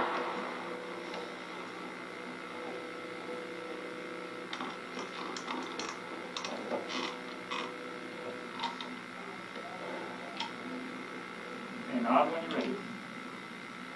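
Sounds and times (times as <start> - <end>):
television electrical hum: 0.0 - 13.9.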